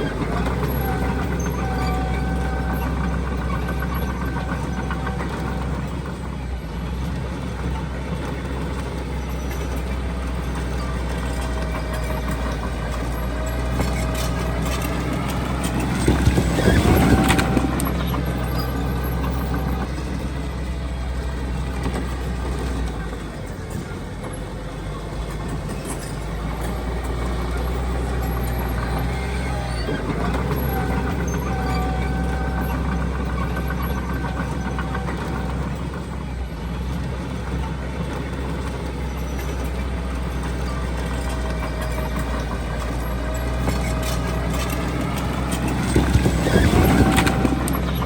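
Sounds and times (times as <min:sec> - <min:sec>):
diesel engine running: 0:00.0 - 0:48.0
rattling and clanking: 0:00.0 - 0:48.0.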